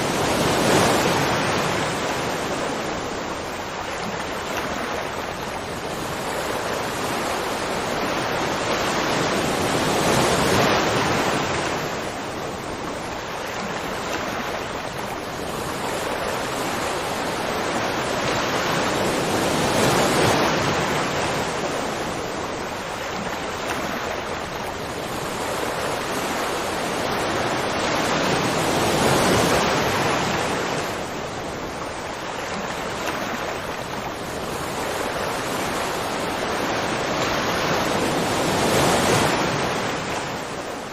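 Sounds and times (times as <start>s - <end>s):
rushing water: 0.0s - 40.9s.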